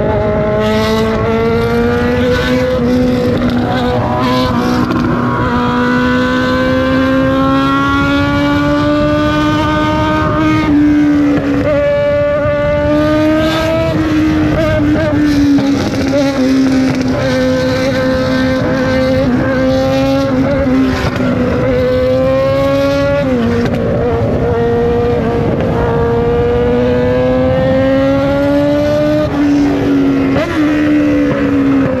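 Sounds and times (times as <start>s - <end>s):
motorcycle engine while riding: 0.0s - 32.0s.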